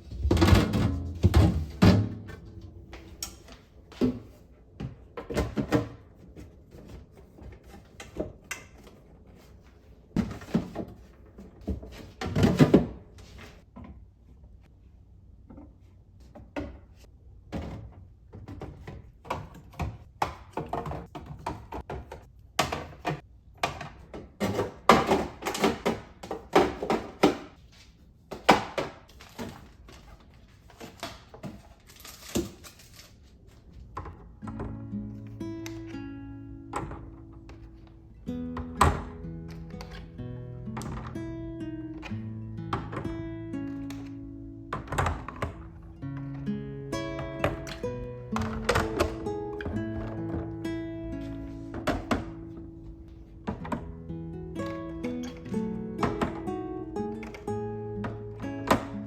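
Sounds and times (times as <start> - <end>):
household items knocking and clunking: 0.0 - 14.1, 15.4 - 27.6, 28.3 - 33.0, 33.7 - 34.9, 36.7 - 38.0, 38.6 - 41.2, 44.7 - 46.5, 47.1 - 54.0, 54.6 - 59.0.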